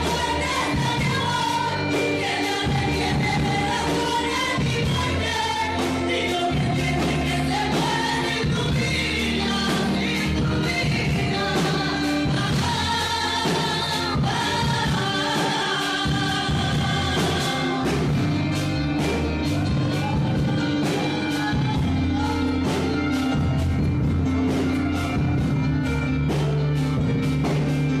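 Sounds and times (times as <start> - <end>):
instrumental backing with bass: 0.0 - 28.0
voices singing worship song: 0.0 - 28.0.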